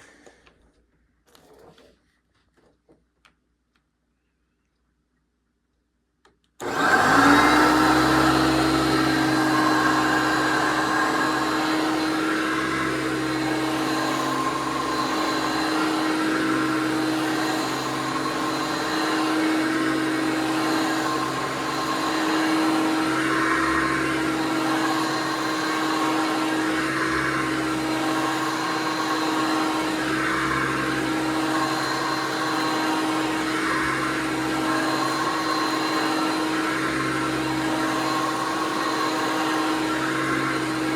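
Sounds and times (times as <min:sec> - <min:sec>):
vacuum cleaner motor running: 0:06.6 - 0:40.9.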